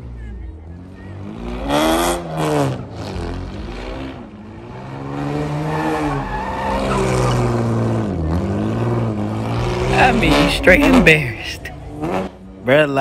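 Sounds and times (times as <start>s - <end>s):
tyres squealing on asphalt: 0.0s - 12.2s
car engine revving: 0.0s - 13.0s.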